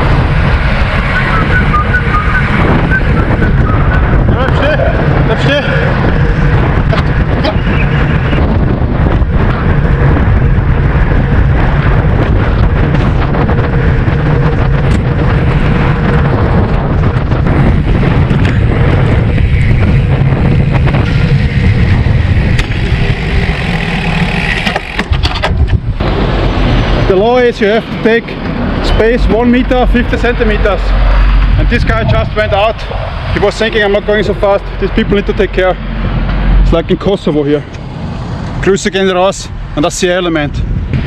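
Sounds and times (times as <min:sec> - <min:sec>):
wind rushing over microphone: 0:00.0 - 0:41.0.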